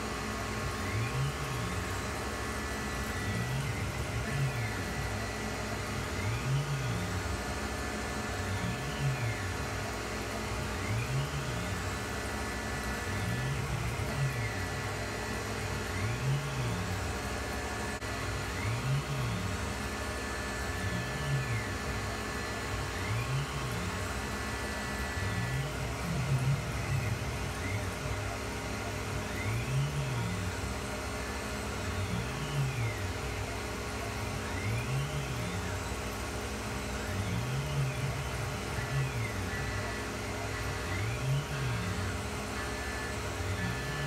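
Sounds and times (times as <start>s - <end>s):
milling machine cutting metal: 0.0s - 44.0s.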